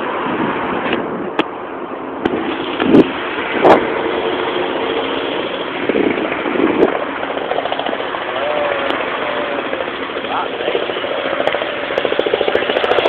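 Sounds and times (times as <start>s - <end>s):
helicopter engine and rotors: 1.3s - 13.0s.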